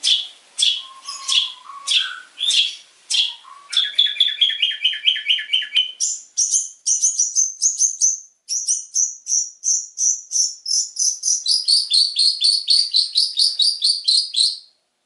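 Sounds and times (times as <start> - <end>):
bird song of sharp high notes: 0.0 - 14.8.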